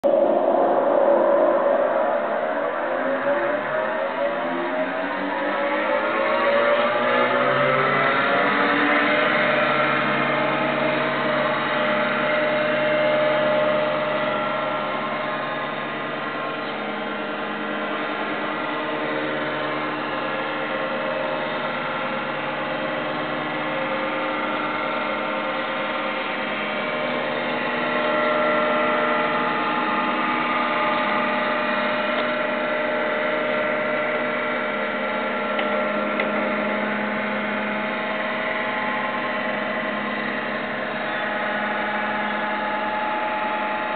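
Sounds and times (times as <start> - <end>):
scanner machine hum: 0.0 - 43.9.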